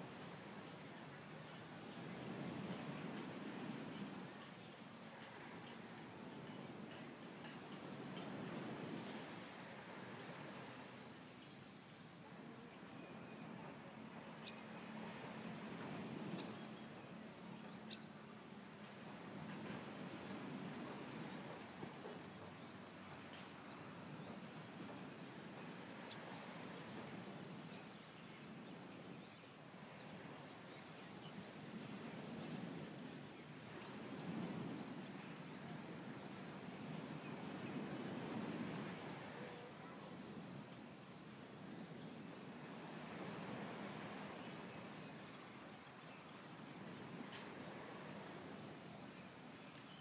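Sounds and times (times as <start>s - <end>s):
low steady surf rush: 0.0s - 50.0s.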